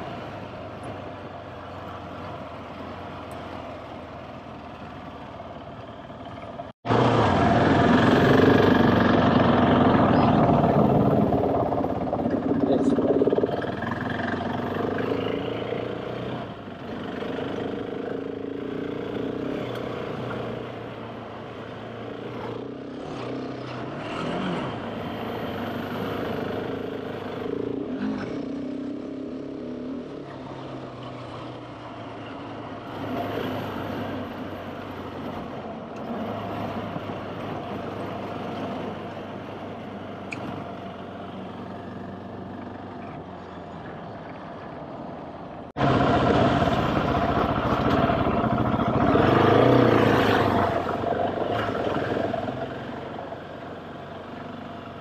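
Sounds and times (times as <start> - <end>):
motorcycle engine revving: 6.8 - 43.2, 45.7 - 55.0.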